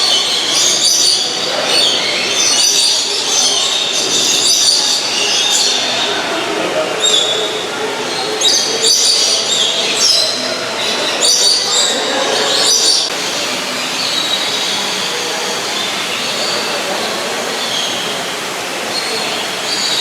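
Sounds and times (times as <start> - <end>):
background hubbub: 0.0 - 20.0.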